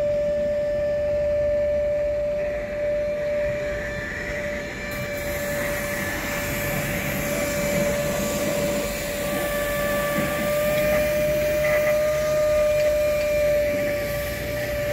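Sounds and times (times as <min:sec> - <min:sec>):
motor whine: 0:00.0 - 0:14.9.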